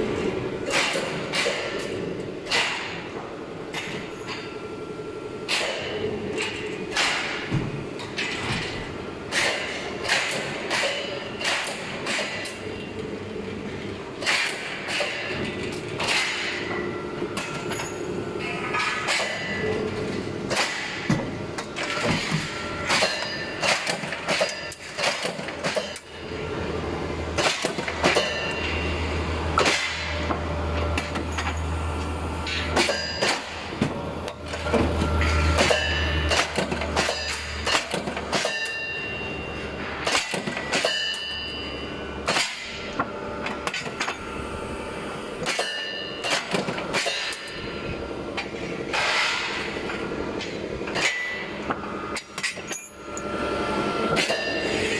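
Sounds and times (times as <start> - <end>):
machine hum: 0.0 - 54.9
metal clanks and knocks: 0.2 - 4.6, 5.4 - 12.7, 14.2 - 26.4, 27.4 - 29.0, 29.6 - 31.6, 32.5 - 44.2, 45.4 - 53.3, 54.1 - 54.9.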